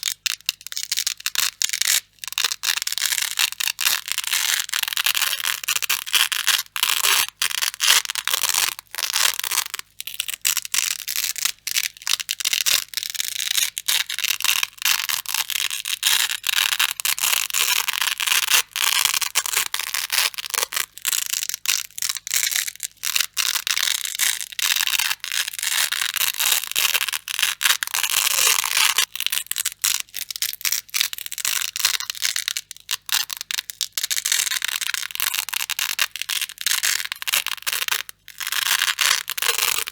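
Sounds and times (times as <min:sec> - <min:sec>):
velcro strips pulled apart: 0:00.0 - 0:39.9.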